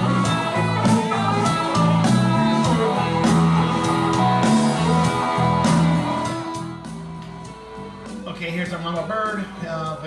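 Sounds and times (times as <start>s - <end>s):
bass line: 0.0s - 8.2s
guitar: 0.0s - 10.0s.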